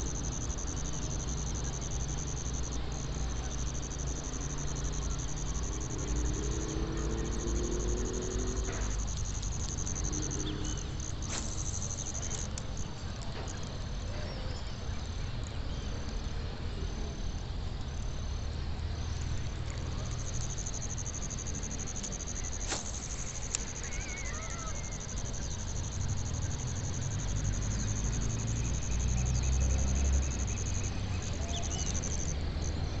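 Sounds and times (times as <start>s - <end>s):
insects trilling: 0.0s - 15.2s, 15.8s - 33.0s.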